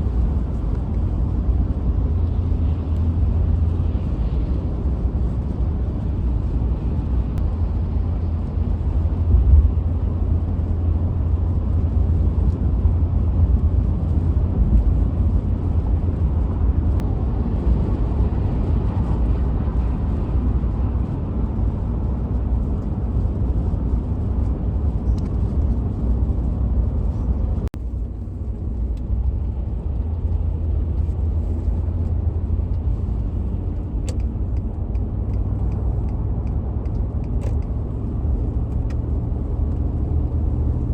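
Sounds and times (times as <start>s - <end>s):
vehicle engine and tyre rumble: 0.0s - 40.9s.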